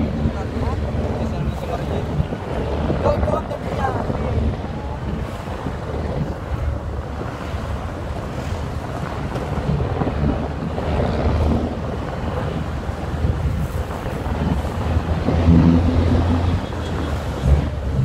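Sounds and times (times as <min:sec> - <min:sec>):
engine rumble: 0:00.0 - 0:18.0
road noise: 0:00.0 - 0:18.0
wind buffeting microphone: 0:00.0 - 0:18.0.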